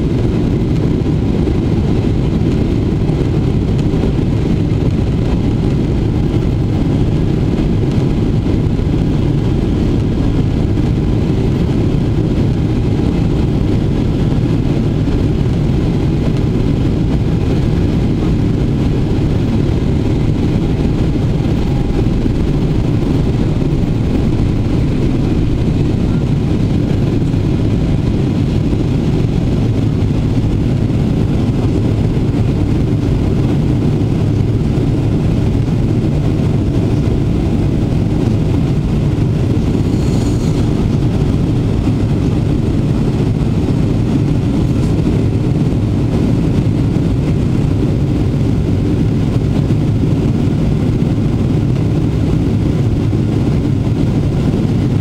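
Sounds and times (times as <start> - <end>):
jet engines rumbling at takeoff: 0.0 - 55.0.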